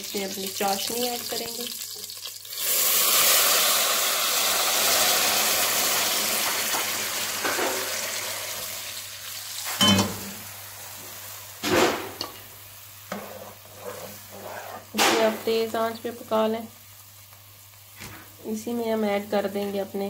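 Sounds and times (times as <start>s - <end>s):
syrup sizzling in hot oil: 0.0s - 19.9s.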